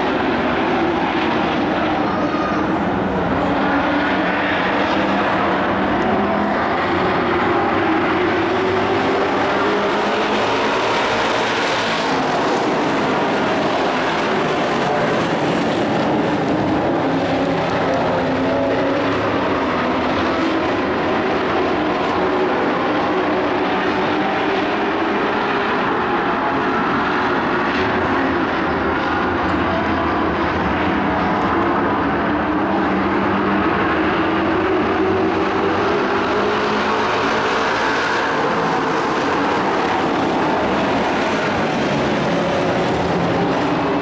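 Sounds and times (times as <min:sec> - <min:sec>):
race truck engines droning: 0:00.0 - 0:44.0.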